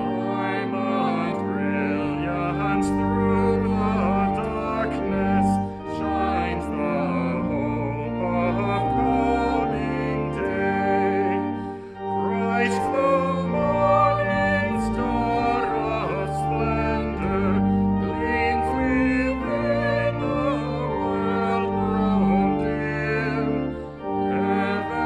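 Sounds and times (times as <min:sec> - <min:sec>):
church organ playing hymn: 0:00.0 - 0:25.0.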